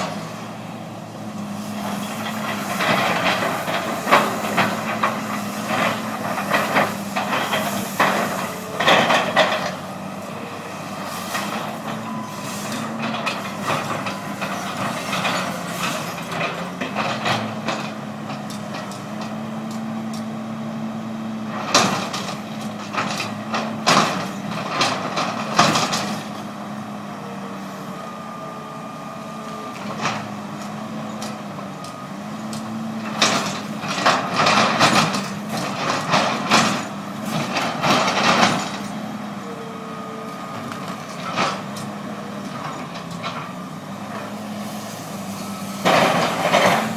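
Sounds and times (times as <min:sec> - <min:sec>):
large engine running: 0:00.0 - 0:46.9.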